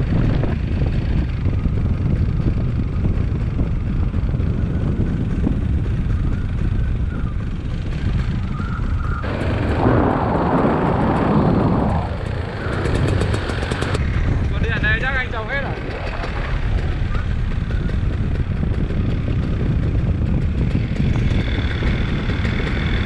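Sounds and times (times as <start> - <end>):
paramotor engine and propeller: 0.0 - 23.0
wind buffeting microphone: 0.0 - 23.0.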